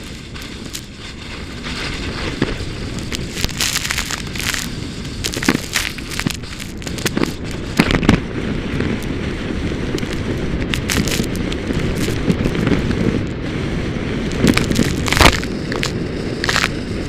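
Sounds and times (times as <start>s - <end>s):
skis crackling over snow: 0.0s - 17.0s
wind rushing on microphone: 0.0s - 17.0s.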